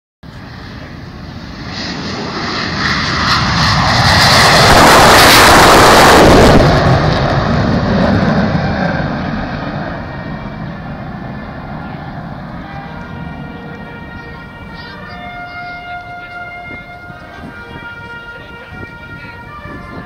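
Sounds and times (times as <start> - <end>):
jet flyover: 0.2 - 20.0.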